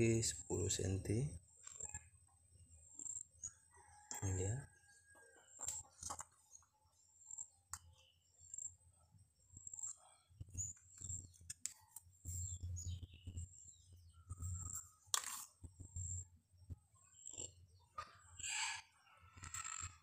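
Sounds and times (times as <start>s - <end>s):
small birds chirping faintly: 0.0s - 20.0s.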